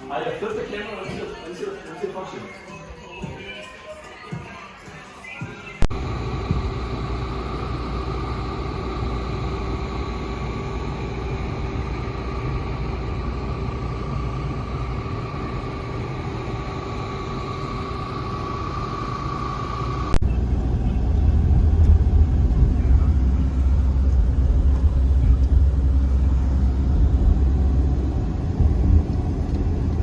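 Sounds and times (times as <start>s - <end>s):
faint steady whine: 5.8s - 30.0s
vehicle rumble: 5.9s - 30.0s.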